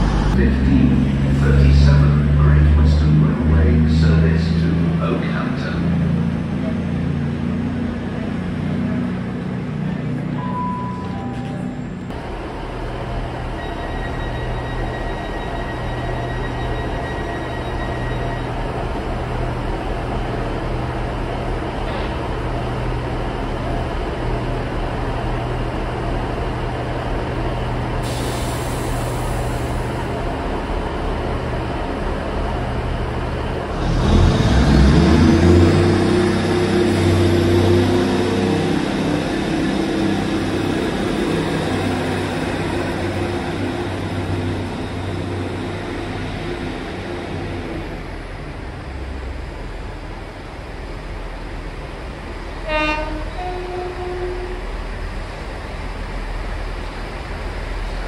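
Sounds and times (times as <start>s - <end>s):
diesel train engines idling: 0.0s - 58.0s.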